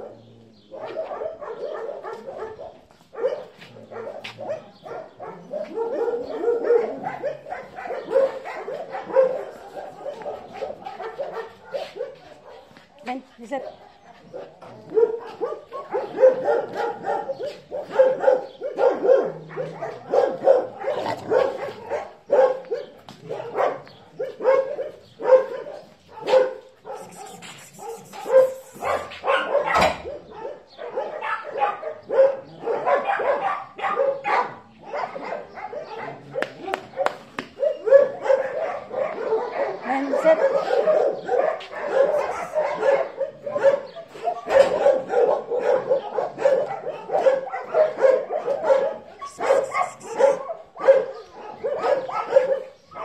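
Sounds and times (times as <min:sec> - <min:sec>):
dogs barking: 0:00.0 - 0:53.0.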